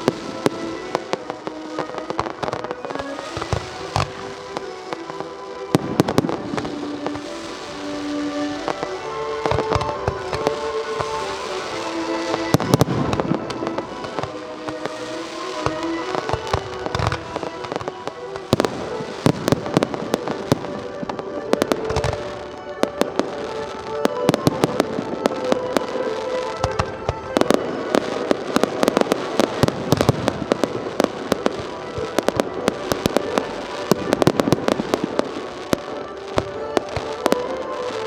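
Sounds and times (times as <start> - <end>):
fireworks banging: 0.0 - 38.0
music playing: 0.0 - 38.0.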